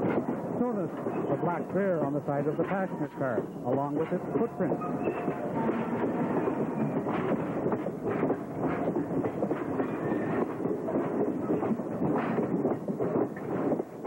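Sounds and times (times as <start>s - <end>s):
train wheels clicking over rail joints: 0.0s - 14.0s.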